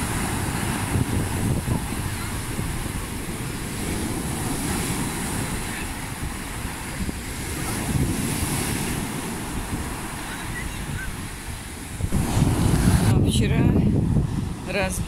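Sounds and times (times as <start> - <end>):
waves breaking on sandy beach: 0.0 - 15.0
wind buffeting microphone: 0.0 - 15.0.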